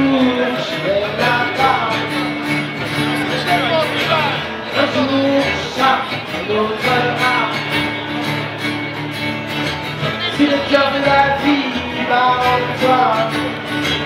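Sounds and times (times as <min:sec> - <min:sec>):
man singing: 0:00.0 - 0:08.6, 0:10.0 - 0:14.0
acoustic guitar strumming: 0:00.0 - 0:14.0.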